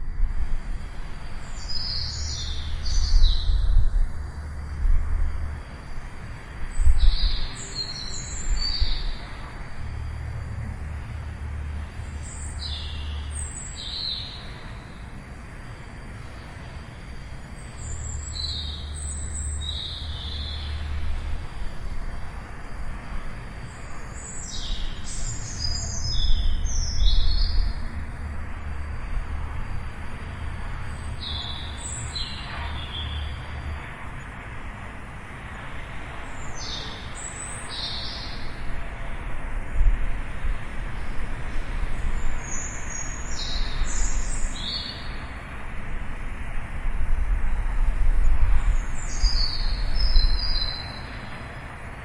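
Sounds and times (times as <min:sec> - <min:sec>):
steady low rumble: 0:00.0 - 0:36.5, 0:38.4 - 0:50.6.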